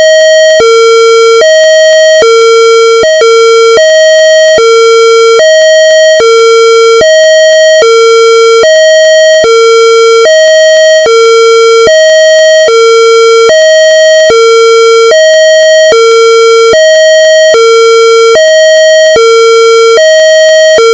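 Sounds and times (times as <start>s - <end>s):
two-tone police siren: 0.0s - 20.9s.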